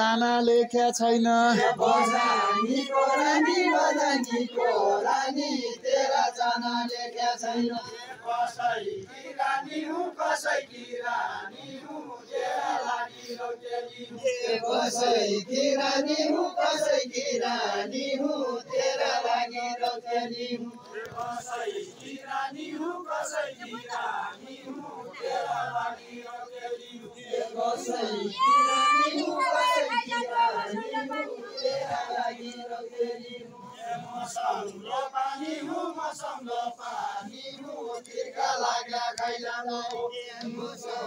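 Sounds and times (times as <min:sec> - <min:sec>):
group singing folk song: 0:00.0 - 0:41.0.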